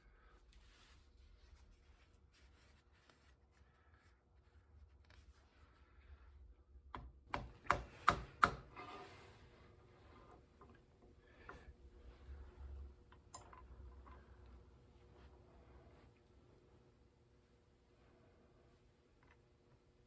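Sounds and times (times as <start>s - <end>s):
faint rubbing and handling noises: 0.0s - 6.7s, 8.7s - 13.0s, 13.7s - 20.0s.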